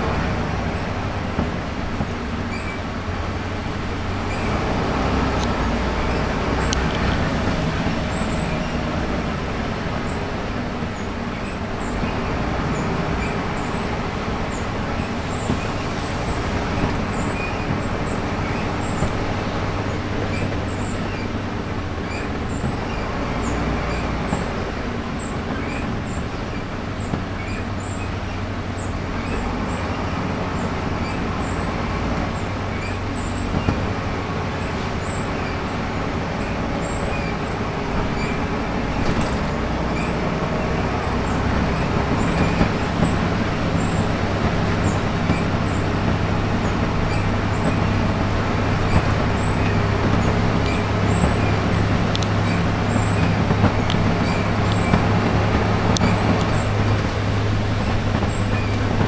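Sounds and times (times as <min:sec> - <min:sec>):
bus diesel engine hum: 0:00.0 - 0:59.0.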